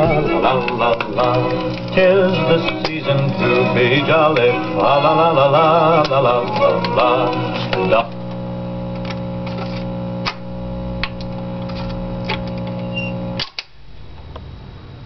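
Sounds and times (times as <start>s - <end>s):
amplifier hum: 0.0s - 14.1s.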